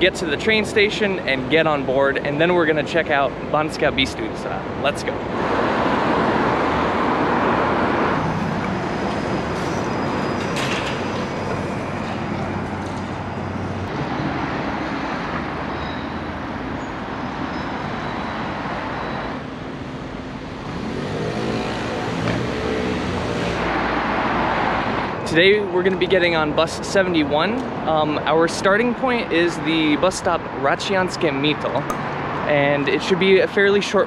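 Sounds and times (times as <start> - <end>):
passing cars and buses: 0.0 - 34.0.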